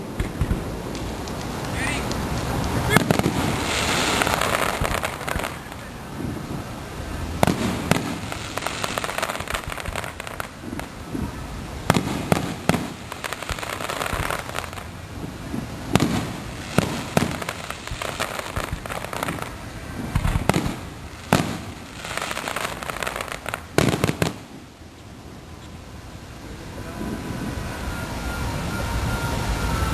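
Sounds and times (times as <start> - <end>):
firework shells booming: 0.0 - 24.7
fireworks crackling: 0.0 - 29.9.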